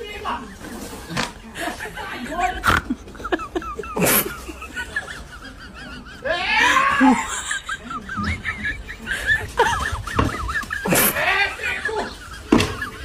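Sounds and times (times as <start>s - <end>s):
person laughing hard: 0.3s - 13.0s.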